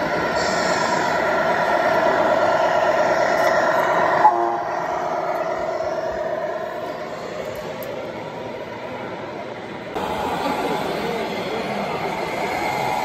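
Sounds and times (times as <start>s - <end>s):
electronic diesel engine drone: 0.0s - 13.0s.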